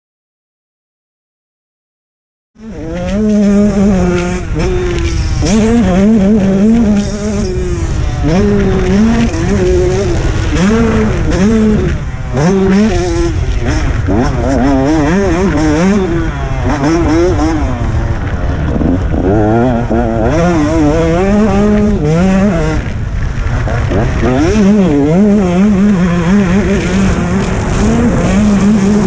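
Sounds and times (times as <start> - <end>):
two-stroke motorbike engine revving: 2.6 - 29.0.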